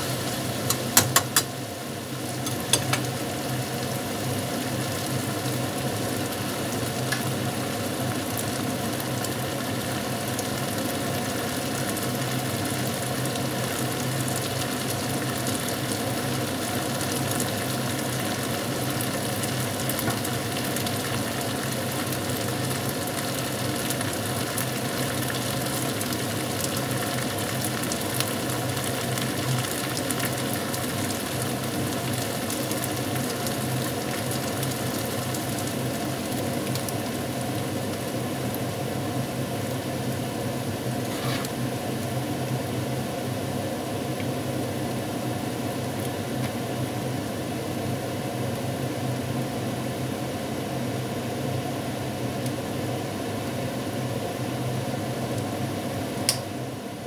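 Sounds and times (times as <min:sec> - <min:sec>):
chicken sizzling in a pan: 0:00.0 - 0:57.0.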